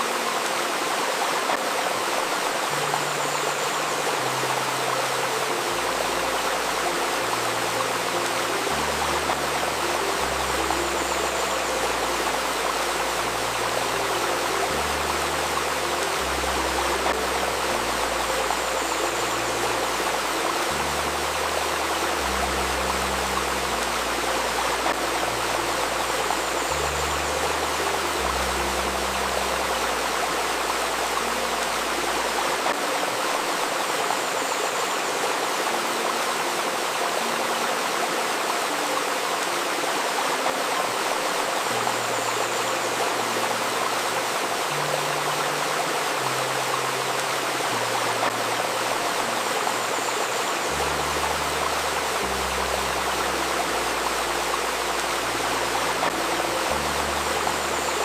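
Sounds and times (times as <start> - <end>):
low sustained drone tones: 0.0 - 58.0
river babbling over stones: 0.0 - 58.0.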